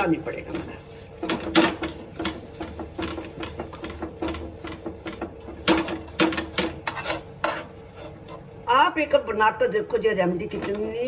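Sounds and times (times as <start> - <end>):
spoon scraping a frying pan: 0.0 - 8.5, 10.4 - 11.0.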